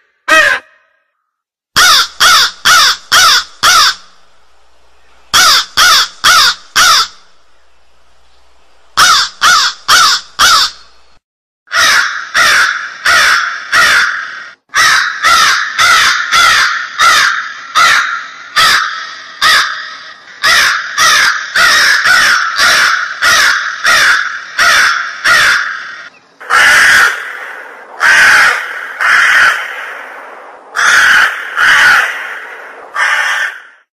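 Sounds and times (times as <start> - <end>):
crow cawing: 0.3 - 1.1, 1.8 - 4.1, 5.3 - 7.3, 9.0 - 10.8, 11.7 - 33.9.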